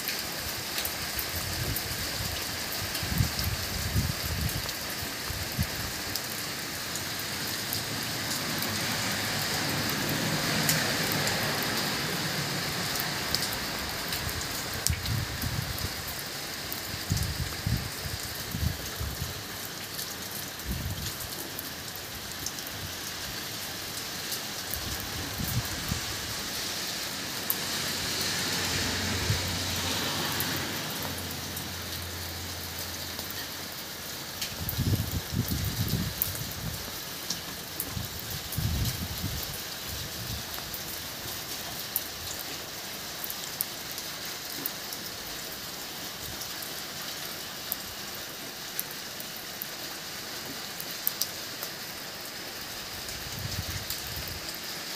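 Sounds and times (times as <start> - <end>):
rain patter on plants: 0.0 - 54.9.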